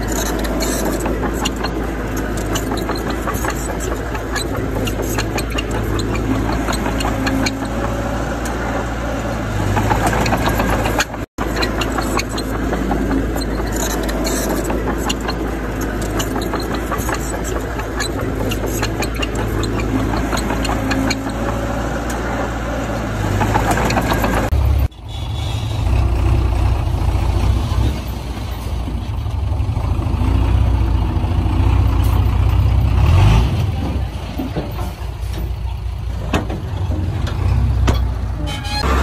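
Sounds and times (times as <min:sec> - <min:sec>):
heavy diesel engine rumbling: 0:00.0 - 0:39.0.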